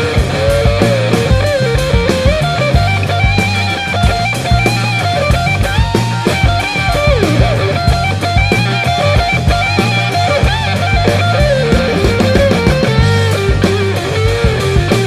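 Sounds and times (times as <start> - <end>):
bass: 0.0 - 15.0
electric guitar lead lines: 0.0 - 15.0
steady drum beat: 0.0 - 15.0.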